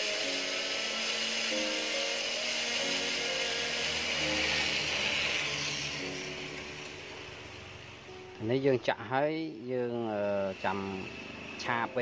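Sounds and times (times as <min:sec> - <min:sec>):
rotary tool grinding metal hiss: 0:00.0 - 0:08.7, 0:09.7 - 0:12.0
background music: 0:00.0 - 0:12.0.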